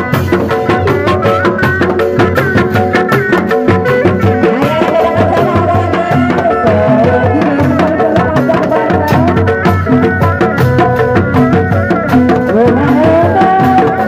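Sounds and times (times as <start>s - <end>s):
hand drums playing a rhythm: 0.0s - 14.0s
large drum beating: 0.0s - 14.0s
wavering melody: 0.0s - 14.0s.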